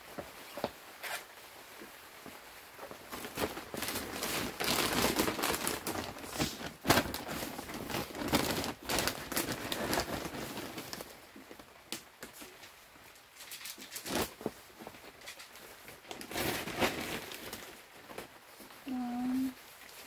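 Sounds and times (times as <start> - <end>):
paper sack rustling: 0.0 - 20.0.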